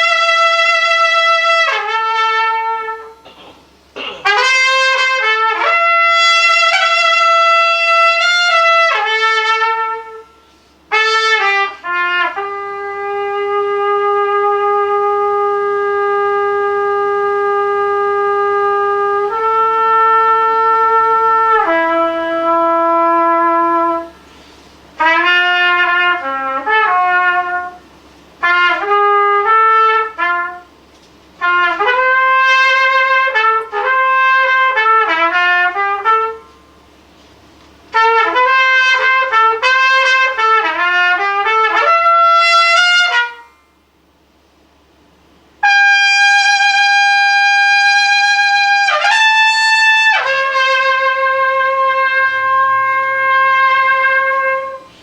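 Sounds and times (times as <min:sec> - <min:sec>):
solo trumpet: 0:00.0 - 0:03.3, 0:04.2 - 0:44.0, 0:45.5 - 0:55.0.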